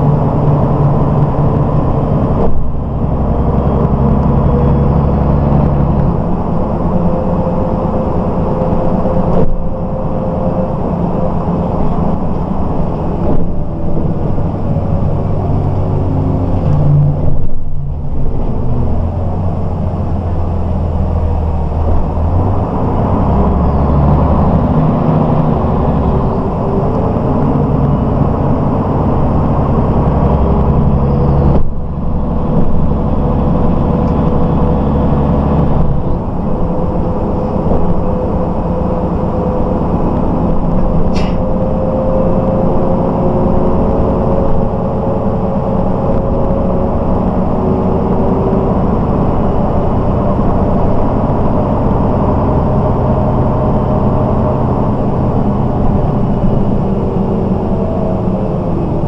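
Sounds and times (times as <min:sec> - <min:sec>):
bus engine running: 0:00.0 - 0:59.0
road noise: 0:00.0 - 0:59.0.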